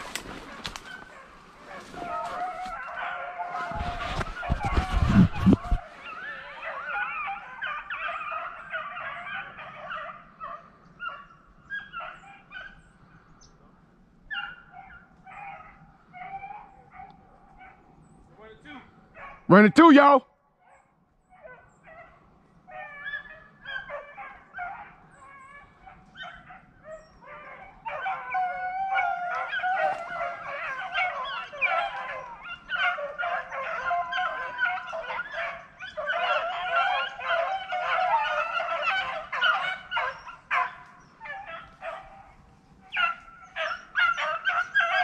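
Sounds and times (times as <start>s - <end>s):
pack of dogs baying: 0.0s - 13.0s, 14.3s - 18.0s, 19.0s - 45.0s.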